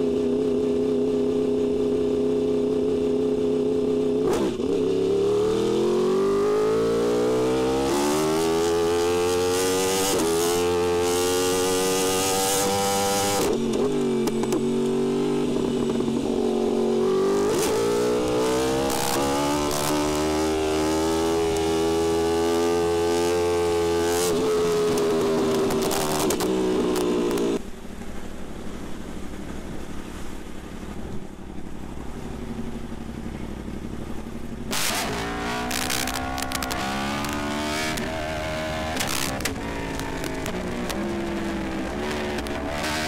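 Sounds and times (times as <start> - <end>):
motorcycle engine under throttle: 0.0 - 28.0, 29.0 - 43.0.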